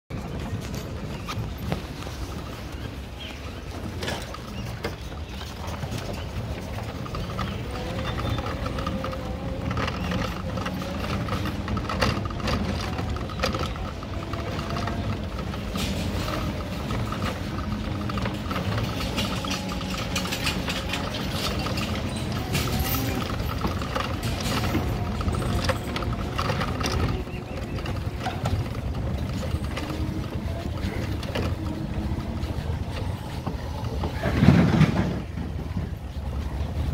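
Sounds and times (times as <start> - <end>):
traffic hum: 0.1 - 36.9.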